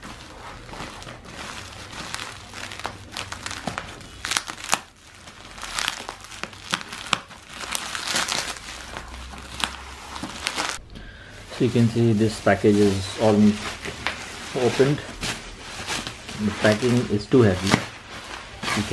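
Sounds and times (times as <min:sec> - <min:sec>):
plastic packaging crinkling: 0:00.0 - 0:18.9.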